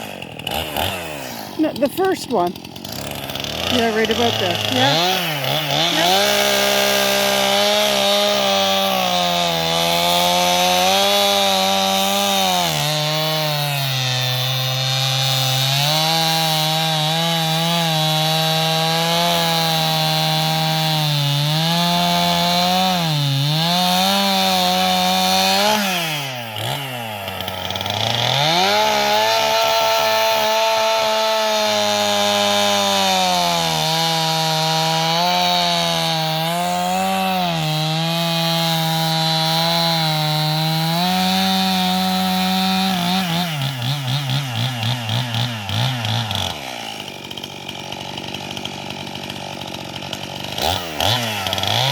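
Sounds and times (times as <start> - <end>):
chainsaw cutting through wood: 0.0 - 51.9.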